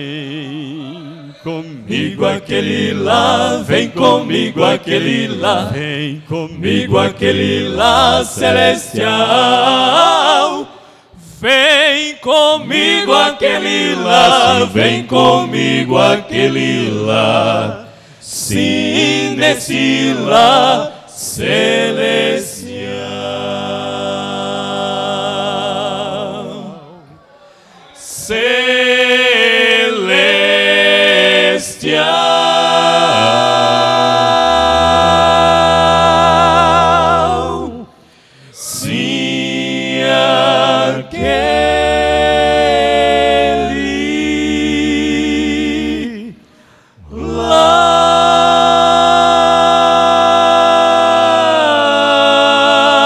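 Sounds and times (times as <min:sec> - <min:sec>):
male vocal quartet singing: 0:00.0 - 0:53.0.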